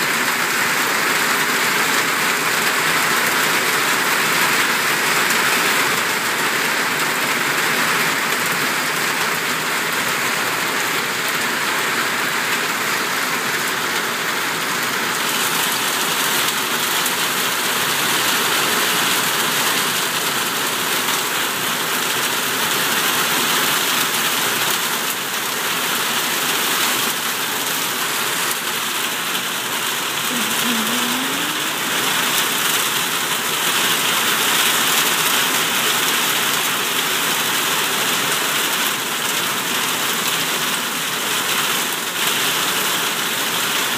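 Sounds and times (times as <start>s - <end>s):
heavy rain on pavement: 0.0s - 43.9s.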